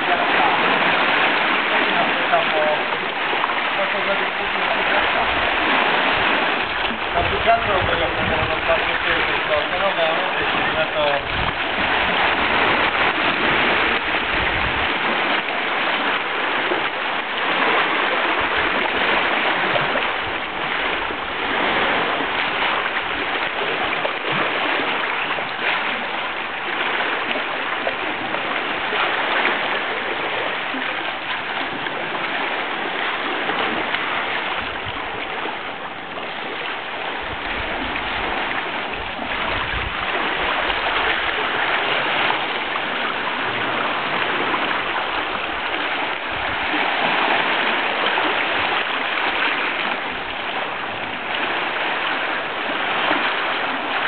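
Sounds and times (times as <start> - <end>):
sea water washing over pebbles: 0.0 - 54.0.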